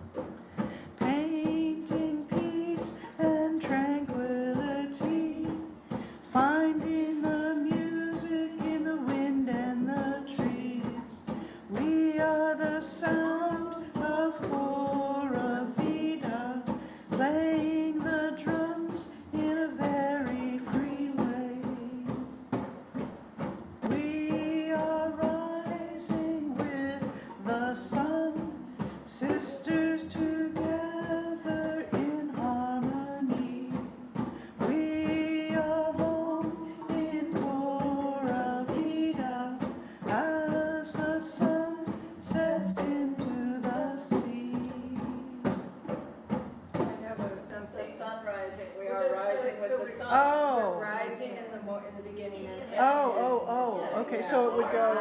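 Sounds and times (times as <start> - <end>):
djembe hand drumming: 0.0 - 50.8, 52.6 - 55.0
person singing: 0.6 - 22.4, 23.8 - 45.7, 52.8 - 55.0.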